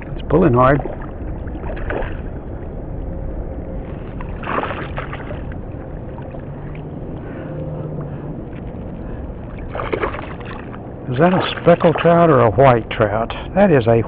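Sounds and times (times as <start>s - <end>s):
wind and water rumble: 0.0s - 14.0s.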